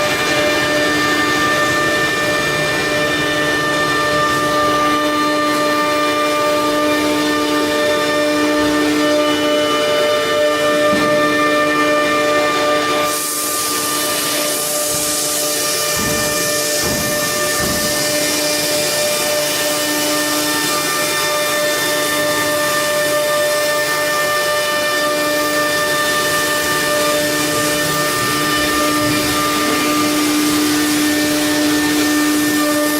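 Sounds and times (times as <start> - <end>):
router spindle high whine: 0.0 - 32.9.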